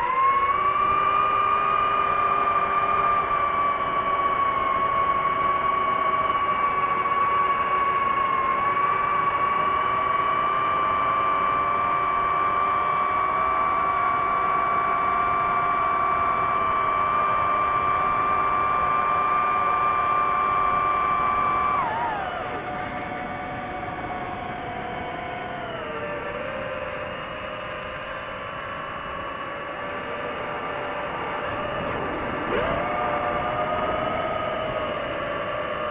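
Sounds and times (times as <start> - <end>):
drone propellers whining: 0.0 - 35.9.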